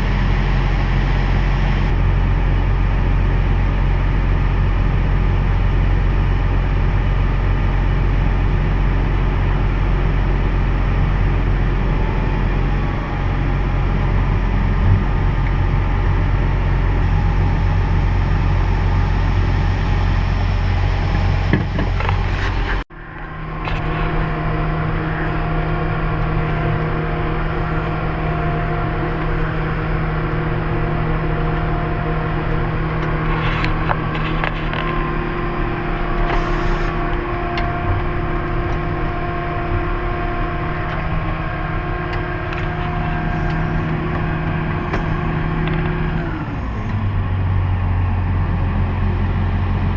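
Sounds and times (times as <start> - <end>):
heavy farm machinery rumbling: 0.0 - 49.9
machine whining over engine: 0.0 - 49.9.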